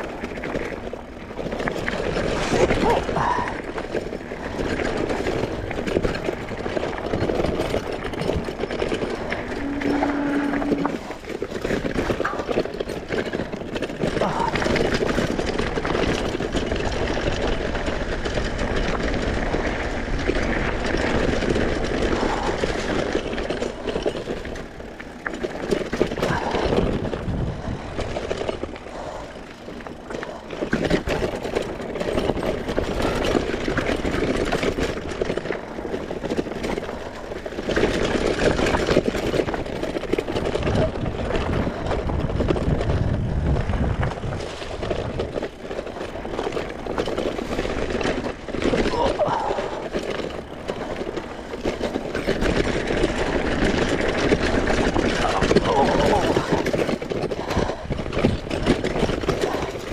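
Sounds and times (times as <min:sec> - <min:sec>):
mountain bike riding rumble: 0:00.0 - 0:59.9.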